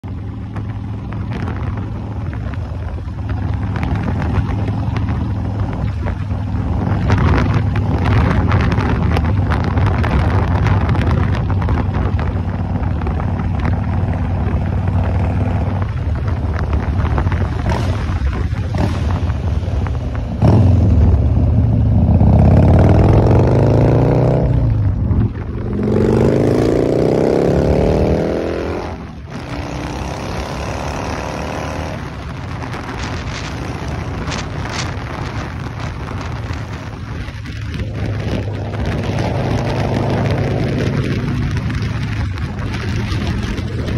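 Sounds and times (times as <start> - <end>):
motorcycle engine accelerating: 0.0 - 43.9
wind rushing over microphone: 0.0 - 43.9.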